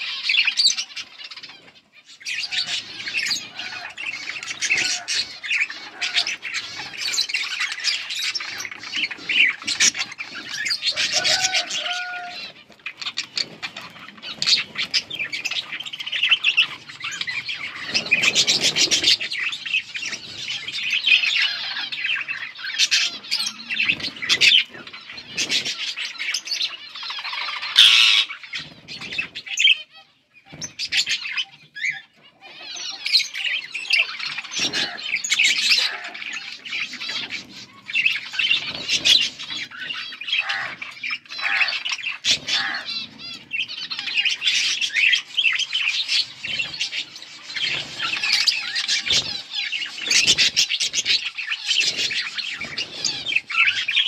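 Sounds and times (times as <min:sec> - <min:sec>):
budgerigars chirping and warbling: 0:00.0 - 0:54.0
budgerigar squawks: 0:02.4 - 0:19.3, 0:20.1 - 0:28.5, 0:31.0 - 0:54.0.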